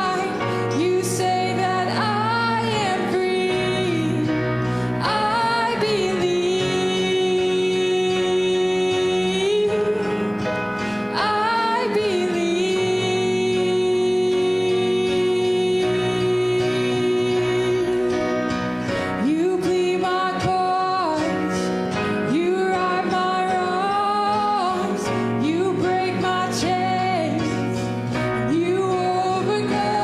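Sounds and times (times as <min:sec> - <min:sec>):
person singing a slow hymn: 0:00.0 - 0:30.0.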